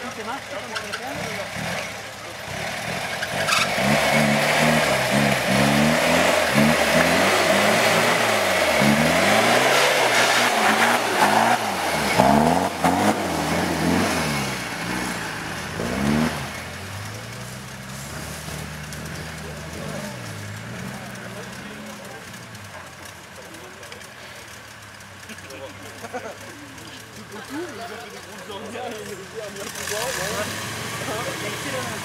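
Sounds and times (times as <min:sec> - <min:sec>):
engine revving hard: 0:00.0 - 0:22.8, 0:29.0 - 0:32.0
tyres spinning in mud: 0:00.9 - 0:32.0.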